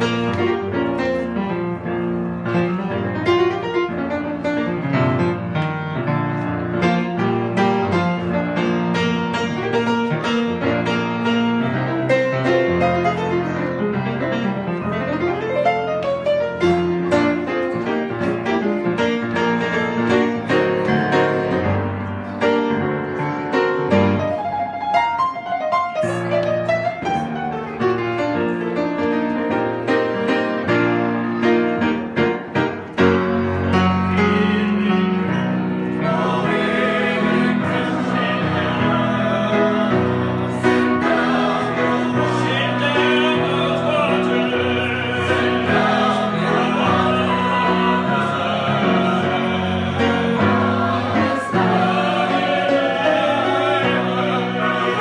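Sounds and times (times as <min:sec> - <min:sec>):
grand piano playing gospel: 0:00.0 - 0:55.0.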